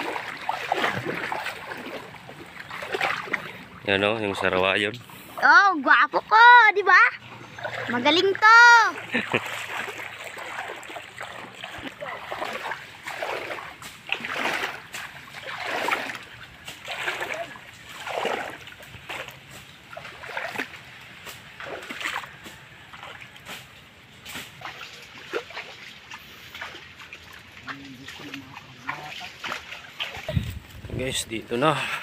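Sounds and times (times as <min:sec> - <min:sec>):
footsteps splashing in water: 0:00.0 - 0:05.5, 0:07.2 - 0:32.0.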